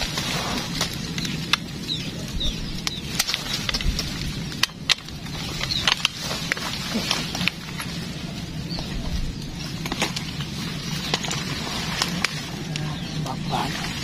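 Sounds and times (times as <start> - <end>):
bird chirps: 0.0 - 4.0, 5.3 - 14.0.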